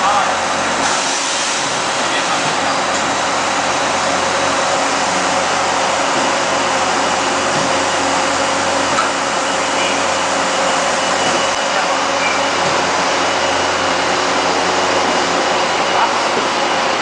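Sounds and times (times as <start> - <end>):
machinery whirring hiss: 0.3 - 16.7.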